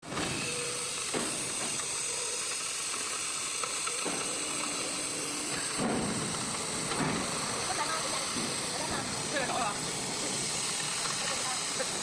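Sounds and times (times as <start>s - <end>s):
cutting torch hissing: 0.0s - 12.0s.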